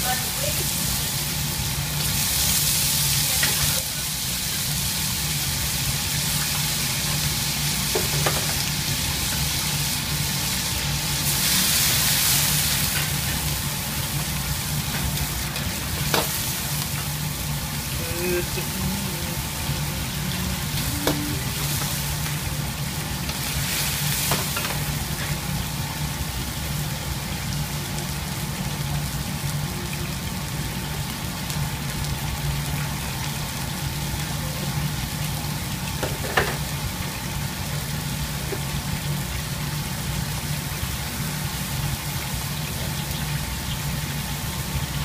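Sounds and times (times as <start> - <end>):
sauce sizzling and bubbling in a wok: 0.0 - 45.0.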